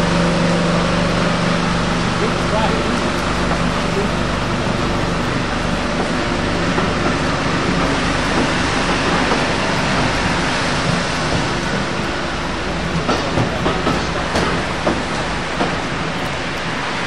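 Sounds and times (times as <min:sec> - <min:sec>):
train carriages rumbling on rails: 0:00.0 - 0:17.0.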